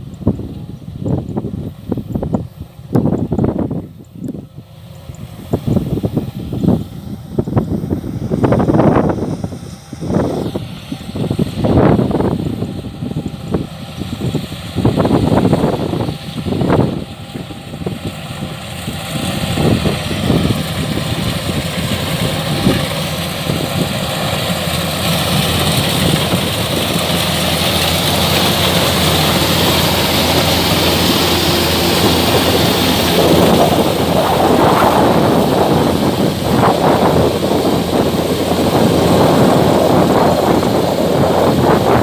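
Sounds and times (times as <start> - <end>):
diesel engine drone: 0.0 - 42.0
threshing gear rushing noise: 5.4 - 42.0.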